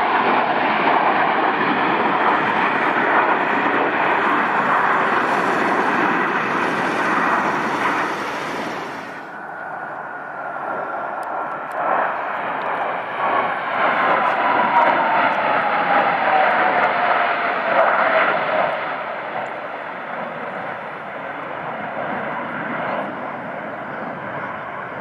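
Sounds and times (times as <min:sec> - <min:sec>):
jet engines rumble and whine: 0:00.0 - 0:25.0.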